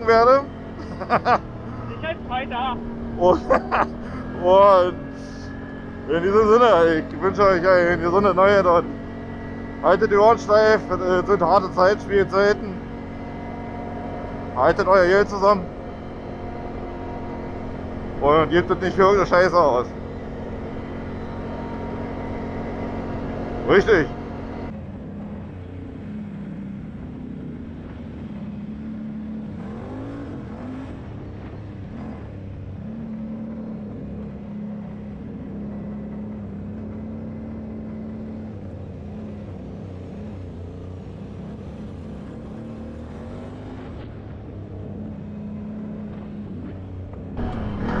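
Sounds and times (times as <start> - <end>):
quad bike engine running: 0.0 - 48.0.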